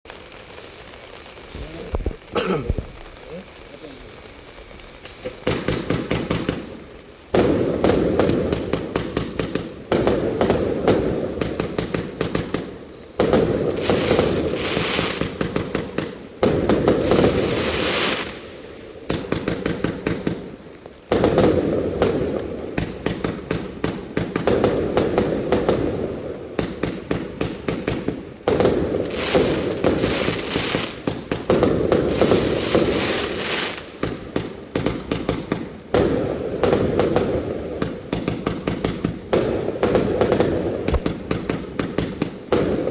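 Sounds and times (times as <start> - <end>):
fireworks firing in volleys: 0.1 - 42.9.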